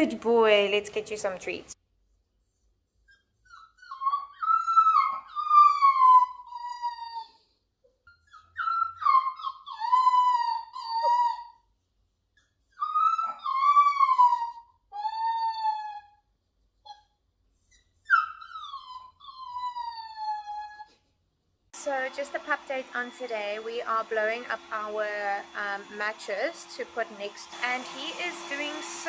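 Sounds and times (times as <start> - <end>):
puppy whining: 2.0 - 21.2, 22.0 - 26.8.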